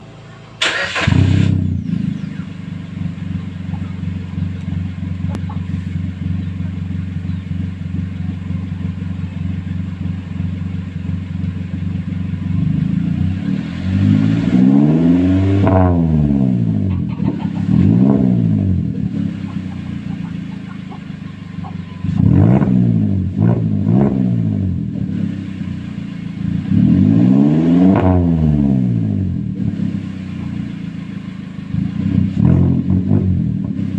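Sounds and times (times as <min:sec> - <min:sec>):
pickup engine idling and revving: 0:00.0 - 0:33.9.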